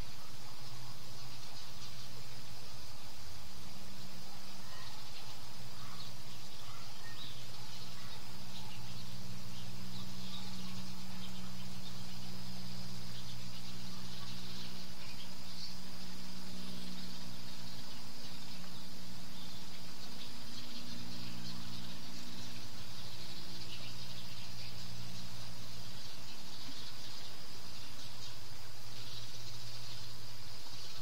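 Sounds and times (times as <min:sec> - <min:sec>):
crickets chirping: 0:00.0 - 0:31.0
low hum: 0:00.0 - 0:31.0.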